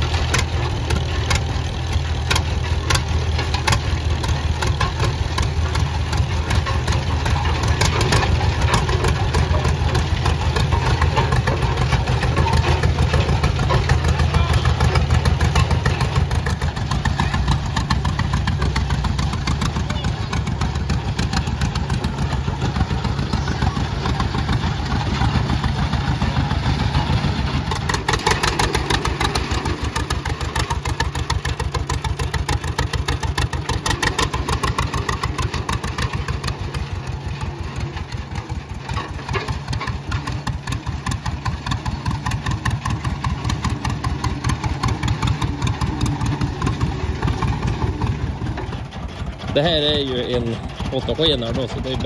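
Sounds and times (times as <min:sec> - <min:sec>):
tractor engine exhaust beats: 0:00.0 - 0:52.0.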